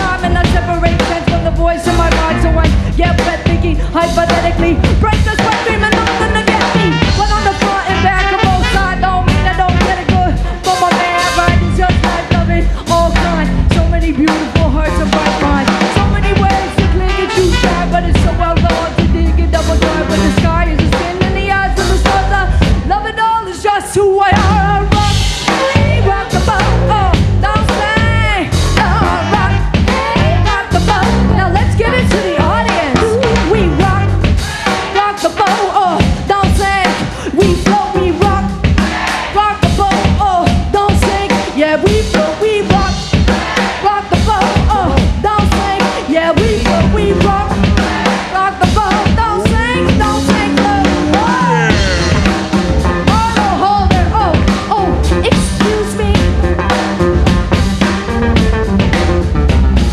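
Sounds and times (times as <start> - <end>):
pulsing bass line: 0.0 - 23.2, 24.2 - 35.0, 37.4 - 38.9, 46.4 - 59.9
drum kit beating: 0.0 - 59.9
rock band playing: 0.0 - 59.9.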